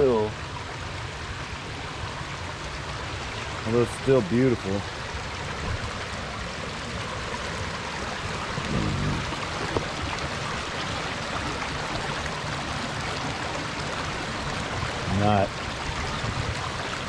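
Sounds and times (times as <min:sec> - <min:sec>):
water pouring over rocks: 0:00.0 - 0:17.0.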